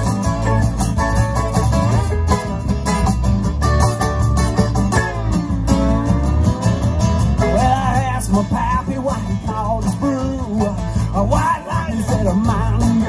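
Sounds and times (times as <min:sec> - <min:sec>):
live country band playing: 0:00.0 - 0:13.0
sliding guitar lead line: 0:00.0 - 0:13.0.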